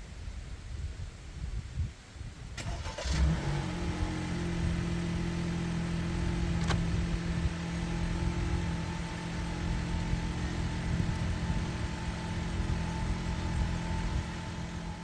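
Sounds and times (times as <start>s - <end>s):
car engine starting and idling: 2.6s - 15.0s.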